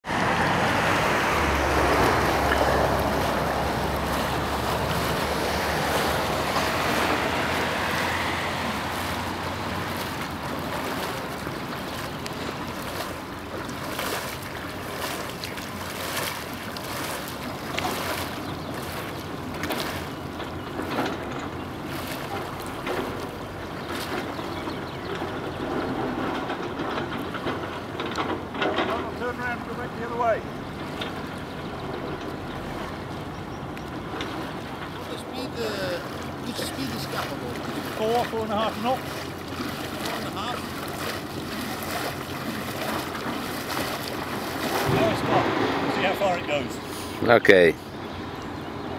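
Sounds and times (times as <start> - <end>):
water rushing along kayak hull: 0.0 - 48.9.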